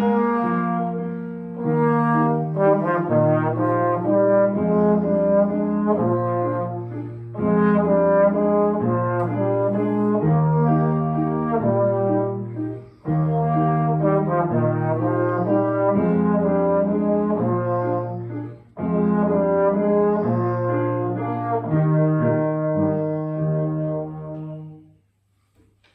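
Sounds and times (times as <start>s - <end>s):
brass instruments playing a waltz: 0.0s - 25.0s.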